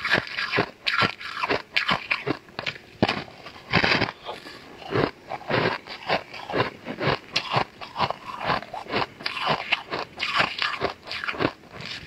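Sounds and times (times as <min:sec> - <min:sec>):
teeth crunching ice: 0:00.0 - 0:12.0.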